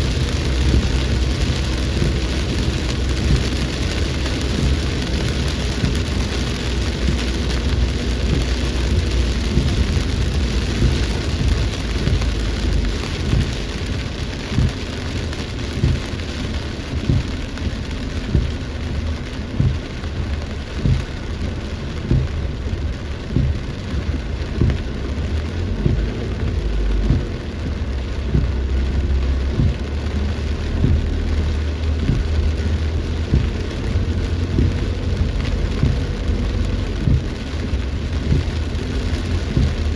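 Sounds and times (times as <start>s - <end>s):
heavy rain hissing: 0.0s - 39.9s
low rumble: 0.0s - 39.9s
raindrops knocking: 0.0s - 39.9s.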